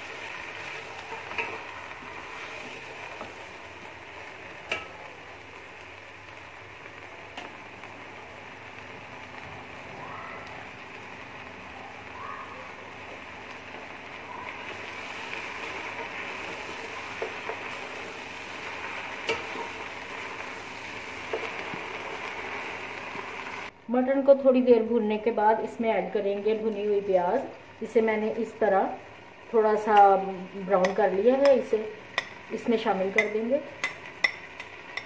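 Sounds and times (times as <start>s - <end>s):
meat sizzling in oil: 0.0s - 23.7s, 26.6s - 35.0s.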